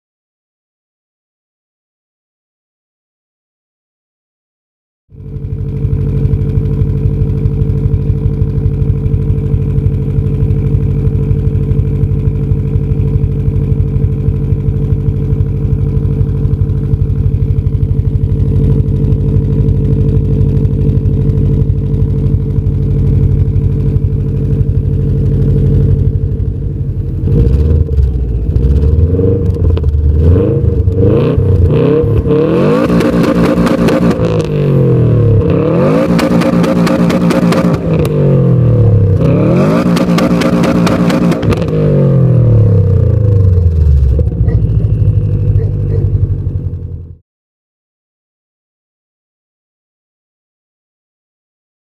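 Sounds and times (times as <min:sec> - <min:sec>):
car engine idling and revving: 0:05.1 - 0:47.2.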